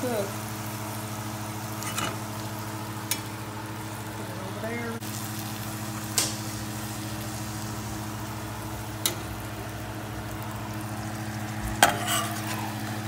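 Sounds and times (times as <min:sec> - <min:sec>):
shrimp sizzling in hot oil: 0:00.0 - 0:13.0.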